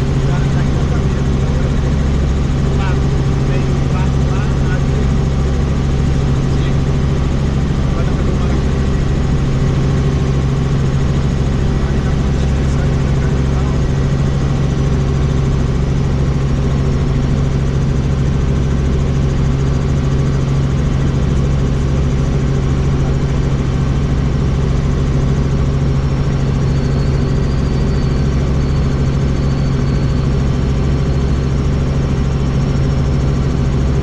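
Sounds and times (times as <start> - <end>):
helicopter rotor drone: 0.0 - 34.0.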